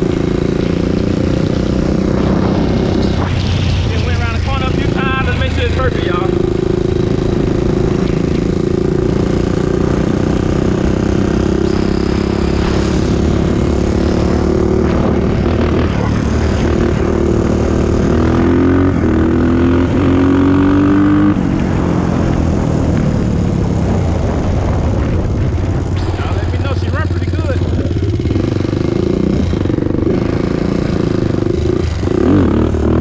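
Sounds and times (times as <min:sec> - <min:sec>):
quad bike engine accelerating: 0:00.0 - 0:33.0.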